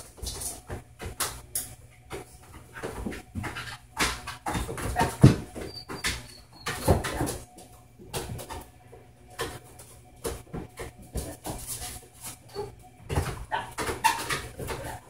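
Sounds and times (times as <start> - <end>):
dog paws thumping on treadmill: 0.0 - 15.0.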